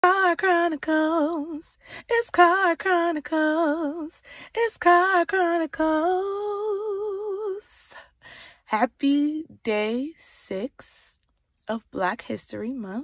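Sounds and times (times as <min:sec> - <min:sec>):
woman singing a cappella: 0:00.0 - 0:13.0.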